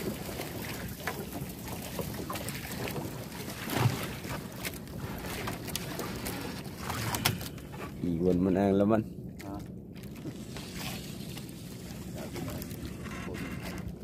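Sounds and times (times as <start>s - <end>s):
water sloshing around boat: 0.0s - 14.0s.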